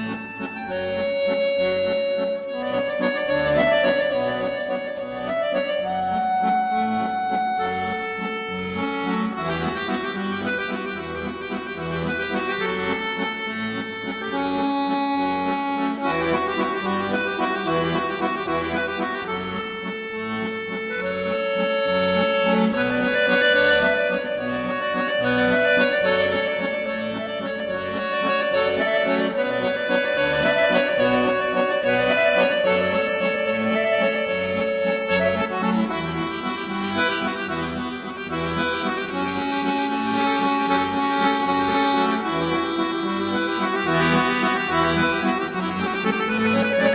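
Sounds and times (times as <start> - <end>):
accordion playing melody: 0.0 - 46.9.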